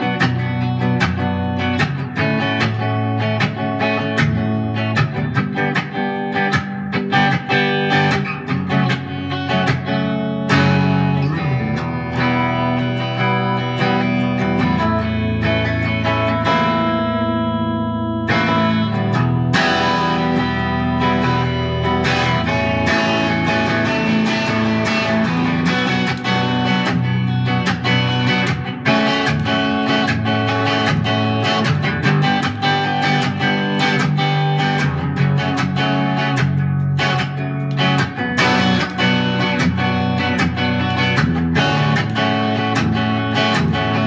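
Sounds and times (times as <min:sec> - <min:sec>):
electric guitar chords and notes: 0:00.0 - 0:44.0.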